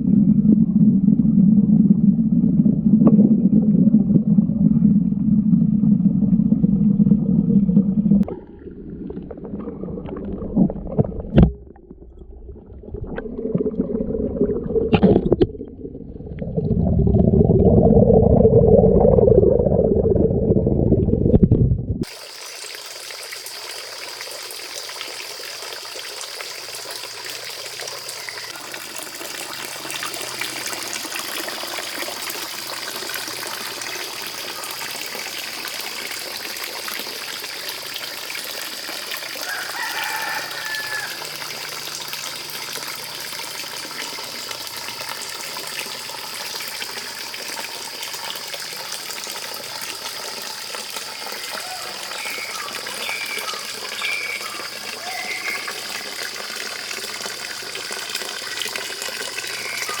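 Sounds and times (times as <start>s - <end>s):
water running into pond: 6.2s - 60.0s.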